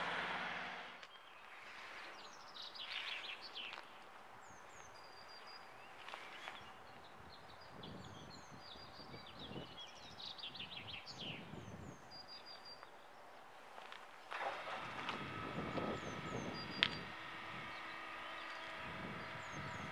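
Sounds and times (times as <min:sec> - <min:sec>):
songbirds chirping and trilling: 0:00.1 - 0:19.9.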